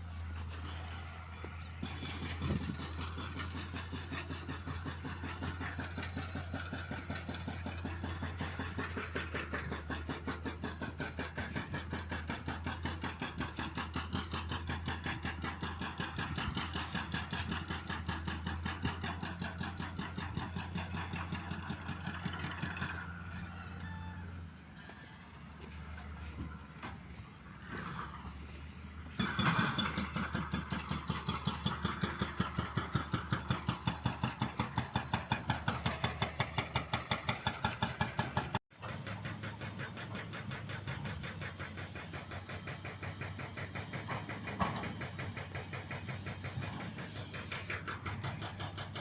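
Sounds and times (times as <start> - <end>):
diesel engine droning: 0.0 - 49.0
hydraulic breaker hammering concrete: 1.8 - 22.9, 29.0 - 49.0.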